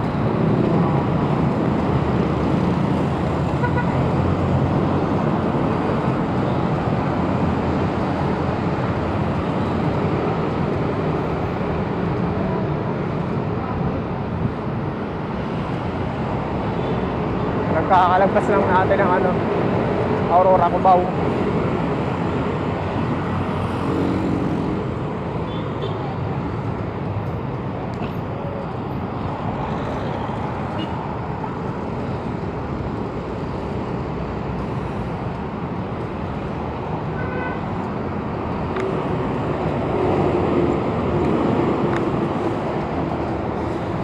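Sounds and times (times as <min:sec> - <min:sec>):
passing cars and trucks: 0:00.0 - 0:44.0.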